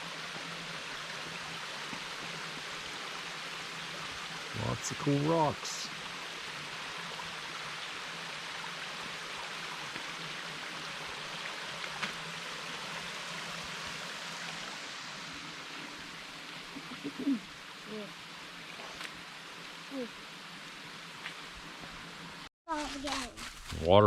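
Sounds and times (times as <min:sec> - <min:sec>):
waterfall and stream rushing: 0:00.0 - 0:22.5.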